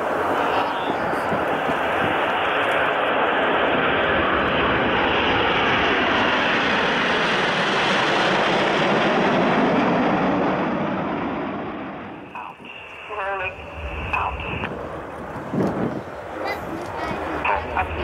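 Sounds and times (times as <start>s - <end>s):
jet engines flying over: 0.0s - 18.0s.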